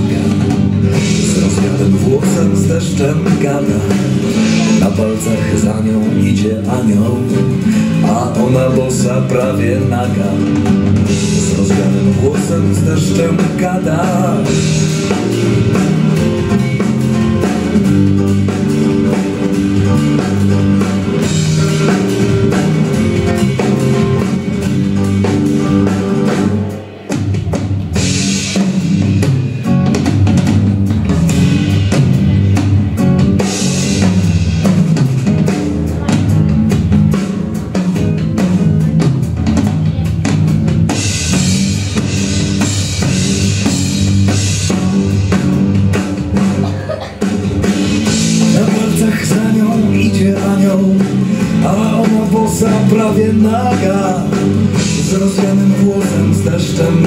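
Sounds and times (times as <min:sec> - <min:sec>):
band playing with drum kit: 0:00.0 - 0:57.0.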